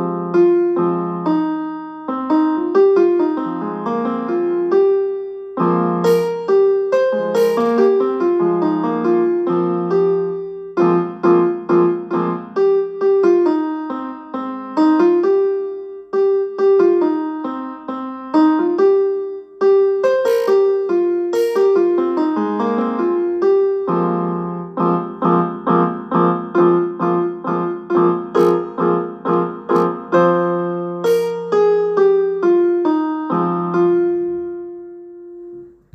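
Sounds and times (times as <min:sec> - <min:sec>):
piano-like ringtone melody: 0:00.0 - 0:35.8.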